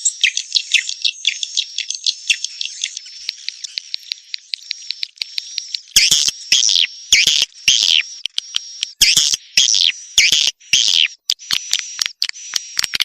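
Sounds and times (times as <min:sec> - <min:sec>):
harsh bird squawks: 0:00.0 - 0:12.6
swiftlet chirps and clicking trills: 0:02.4 - 0:13.0.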